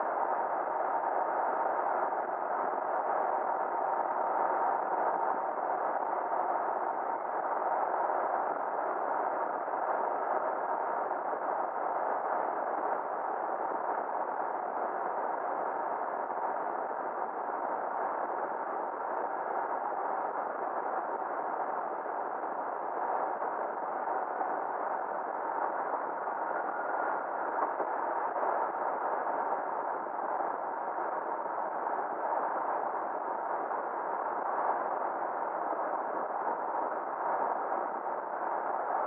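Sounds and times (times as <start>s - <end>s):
faint constant hum: 0.0s - 39.0s.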